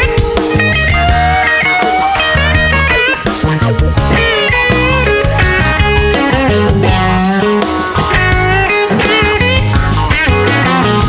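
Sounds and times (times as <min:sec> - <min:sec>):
blues-rock band playing: 0:00.0 - 0:11.0
electric guitar lead: 0:00.0 - 0:11.0.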